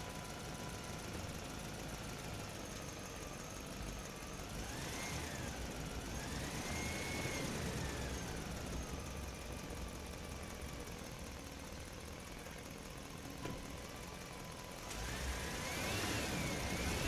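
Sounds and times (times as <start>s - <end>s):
engine running and revving: 0.0s - 12.0s, 13.4s - 17.0s.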